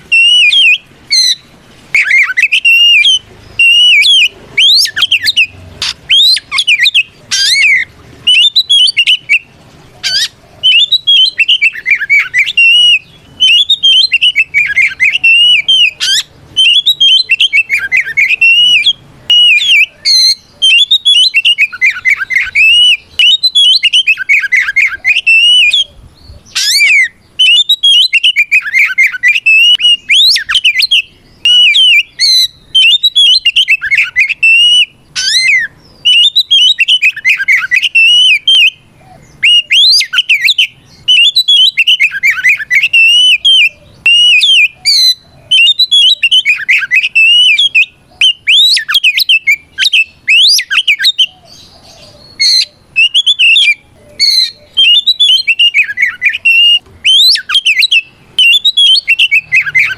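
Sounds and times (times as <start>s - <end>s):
magpie-robin singing: 0.0s - 59.9s.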